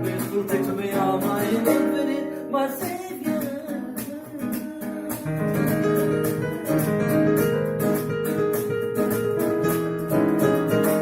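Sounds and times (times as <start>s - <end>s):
keyboard playing held chords: 0.0s - 11.0s
rhythmic accompaniment: 0.0s - 11.0s.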